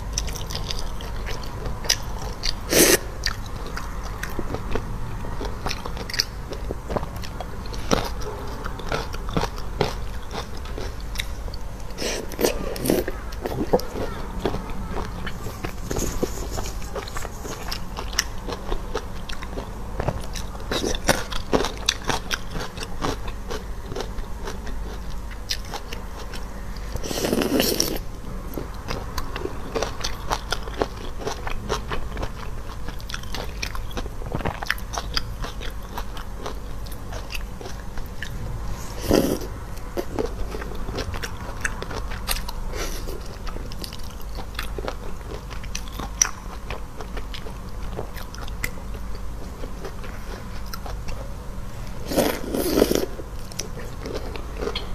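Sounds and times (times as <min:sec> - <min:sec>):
biting and chewing crunches: 0:00.0 - 0:54.9.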